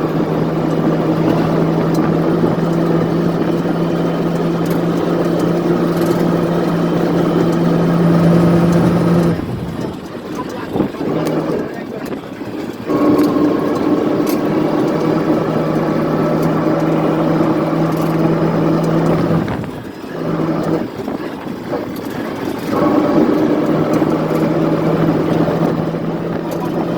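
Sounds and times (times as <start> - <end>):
motor engine running: 0.0 - 26.9.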